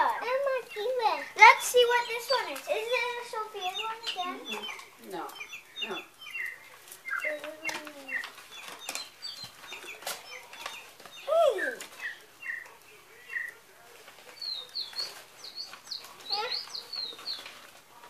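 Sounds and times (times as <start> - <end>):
electronic toy birds chirping: 0.0 - 13.6, 14.3 - 17.7
paper cards rustling: 0.0 - 18.0.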